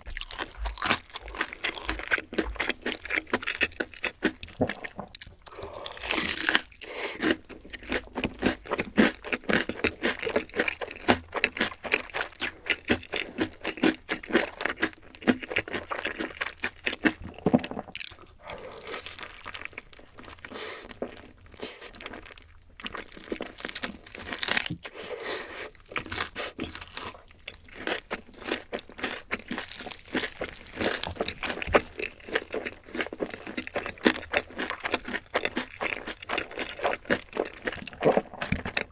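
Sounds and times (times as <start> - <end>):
crunching crisp food: 0.0 - 38.9.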